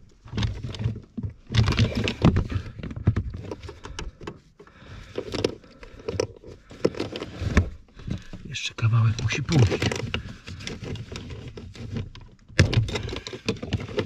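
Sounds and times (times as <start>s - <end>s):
hands working rubber hoses: 0.0s - 14.0s.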